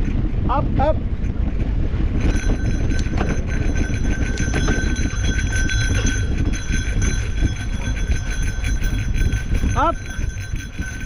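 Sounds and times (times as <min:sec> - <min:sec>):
wind rumble on microphone: 0:00.0 - 0:11.0
bike rattling on rough trail: 0:01.2 - 0:11.0.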